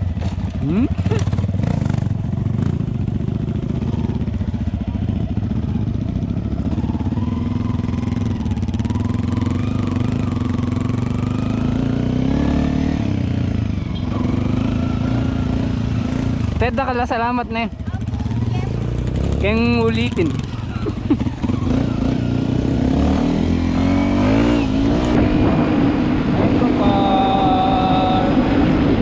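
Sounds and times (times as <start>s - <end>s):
dirt bike engine running: 0.0s - 28.2s.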